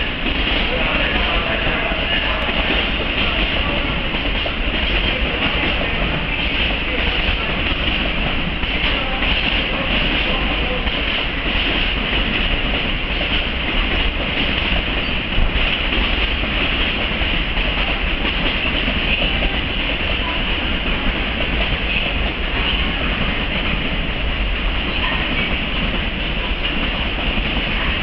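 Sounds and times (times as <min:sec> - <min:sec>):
freight train wheels on track: 0:00.0 - 0:28.0.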